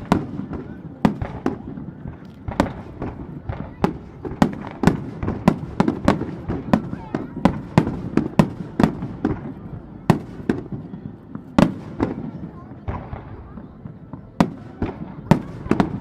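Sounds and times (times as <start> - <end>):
fireworks bursting with rumbling echo: 0.0 - 16.0.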